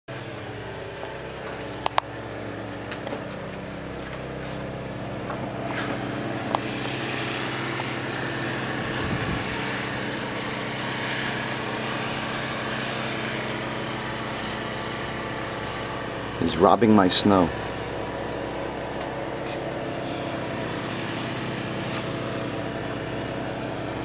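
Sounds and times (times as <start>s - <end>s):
snowblower engine running: 0.1s - 24.0s.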